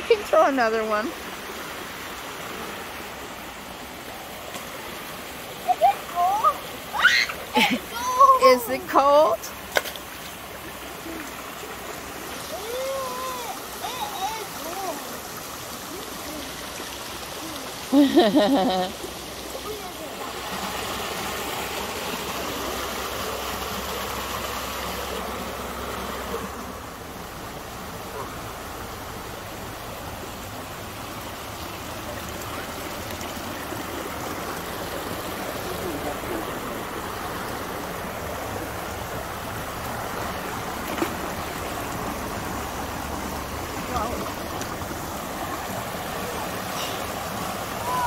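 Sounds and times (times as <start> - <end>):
creek water rushing over rocks: 0.0 - 48.0.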